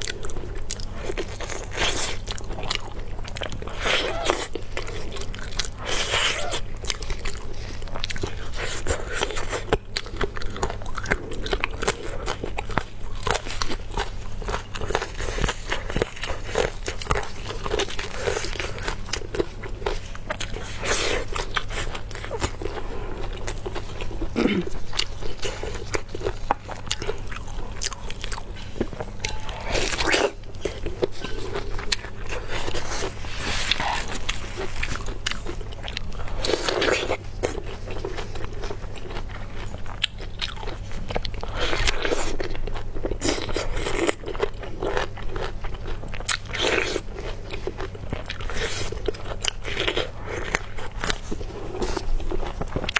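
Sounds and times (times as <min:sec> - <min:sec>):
crunching bites and chewing: 0:00.0 - 0:52.9
steady low hum: 0:00.0 - 0:52.9.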